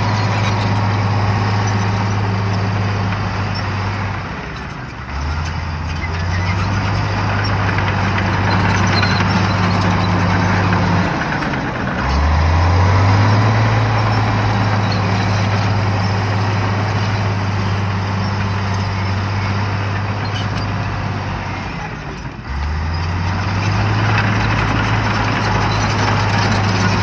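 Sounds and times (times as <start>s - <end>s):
bulldozer diesel engine revving: 0.0s - 27.0s.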